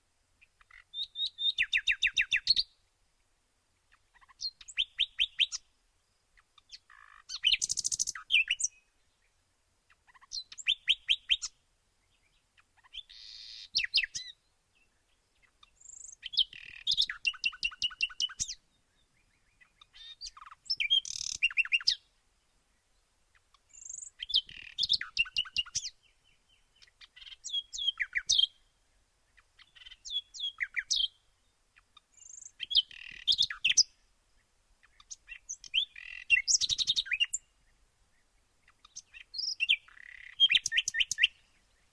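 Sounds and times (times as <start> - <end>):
bird chirping: 0.4 - 2.9, 3.8 - 41.9.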